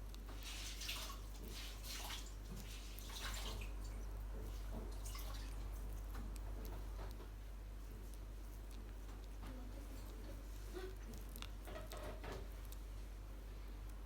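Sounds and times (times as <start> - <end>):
bird beak eating wet fruit: 0.0 - 13.0
low electrical hum: 0.0 - 14.0.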